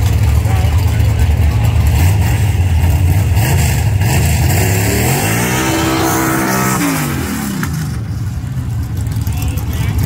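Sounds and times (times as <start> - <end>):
drag car engine revving: 0.0 - 10.0.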